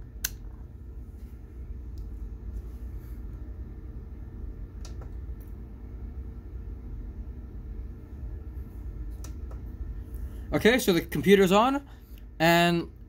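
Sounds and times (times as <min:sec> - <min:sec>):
computer fans humming: 0:00.0 - 0:13.0.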